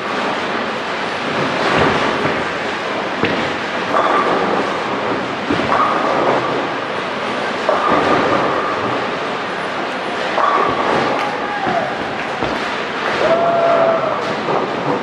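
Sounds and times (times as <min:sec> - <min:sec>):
bowling balls rolling: 0:00.0 - 0:15.0.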